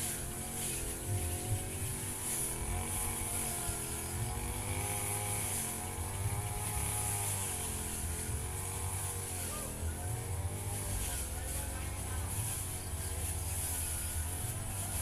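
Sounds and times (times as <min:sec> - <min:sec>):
brush cutter engine cutting grass: 0:00.0 - 0:15.0.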